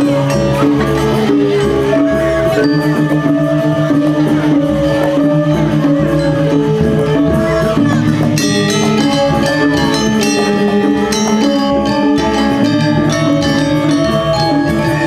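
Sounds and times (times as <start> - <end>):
hand drums: 0.0 - 15.0
metallophones ringing: 0.0 - 15.0.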